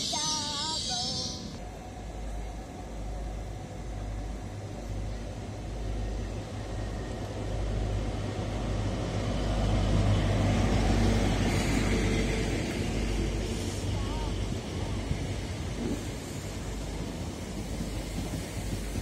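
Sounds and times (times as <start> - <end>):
diesel train engine rumble: 0.0 - 19.0
wheels rushing on rail: 0.0 - 19.0.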